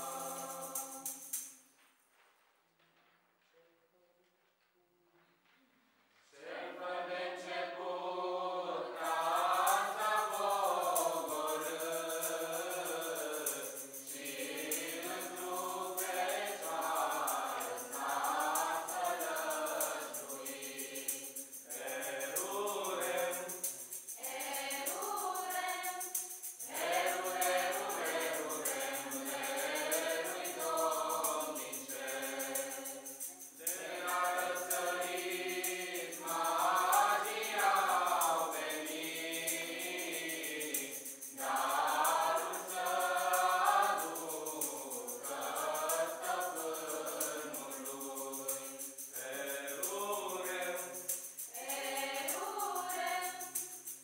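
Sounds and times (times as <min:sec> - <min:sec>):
choir singing a carol unaccompanied: 0:00.0 - 0:01.5, 0:06.3 - 0:54.0.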